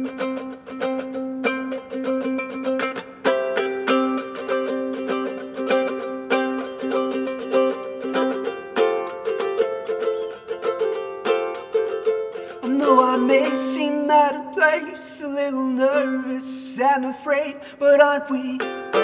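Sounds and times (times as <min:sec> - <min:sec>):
plucked ukulele-like chords: 0:00.0 - 0:16.4, 0:18.3 - 0:19.0.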